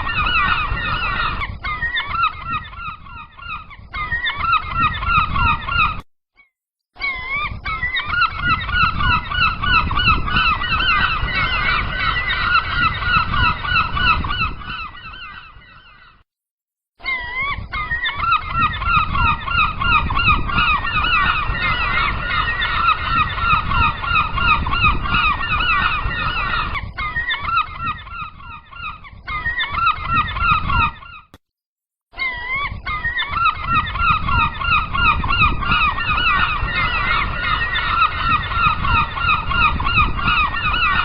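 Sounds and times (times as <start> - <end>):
gulls calling: 0.0 - 6.0, 7.0 - 16.2, 17.0 - 31.4, 32.2 - 41.0.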